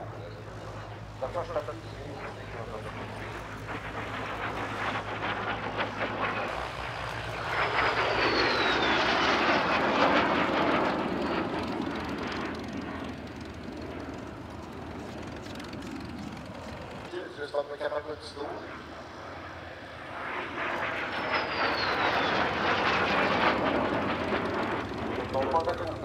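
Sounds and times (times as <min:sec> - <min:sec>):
jet fighter flying past: 0:00.0 - 0:26.0.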